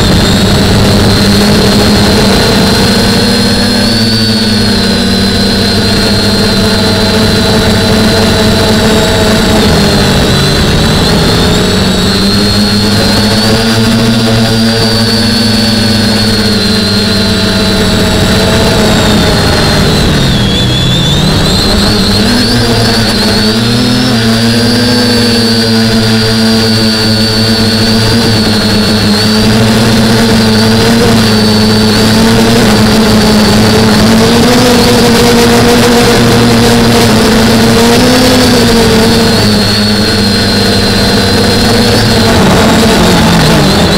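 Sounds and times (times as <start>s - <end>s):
quadcopter motors whining: 0.0s - 43.9s.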